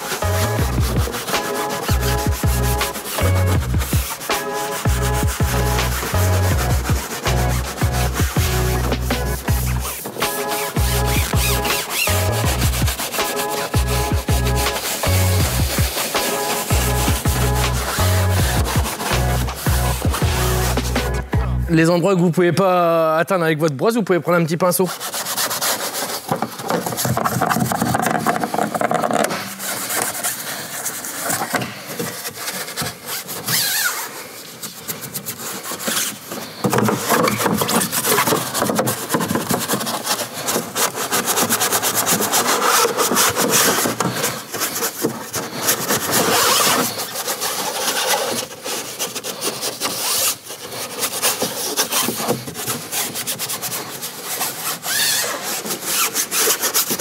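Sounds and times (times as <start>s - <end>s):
brush scrubbing wet plastic: 0.0s - 21.9s, 24.6s - 57.0s.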